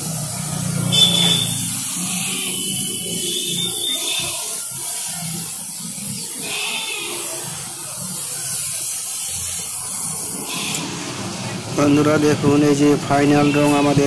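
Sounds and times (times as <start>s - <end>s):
spray gun hissing: 0.0s - 11.7s.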